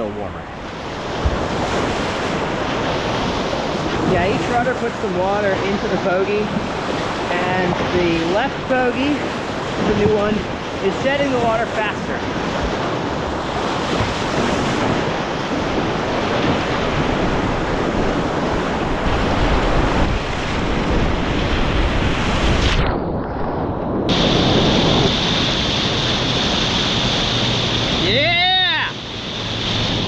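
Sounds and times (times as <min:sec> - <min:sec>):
wind buffeting microphone: 0:00.2 - 0:28.2
river rapid rushing: 0:00.6 - 0:20.3, 0:24.1 - 0:30.0.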